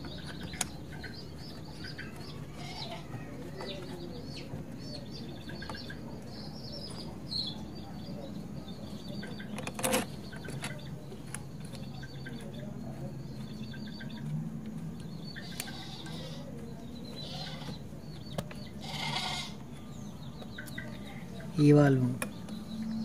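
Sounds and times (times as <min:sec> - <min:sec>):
birds chirping: 0:00.0 - 0:23.0
farmyard animals: 0:00.0 - 0:23.0.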